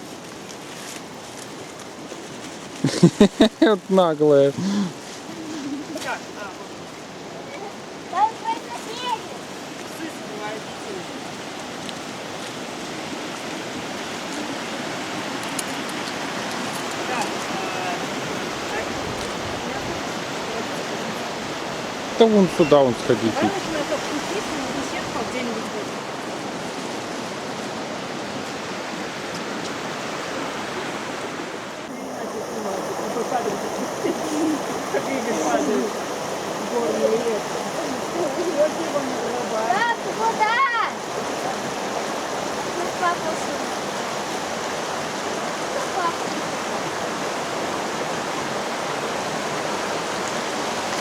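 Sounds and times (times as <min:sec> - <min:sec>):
rushing water: 0:00.0 - 0:51.0.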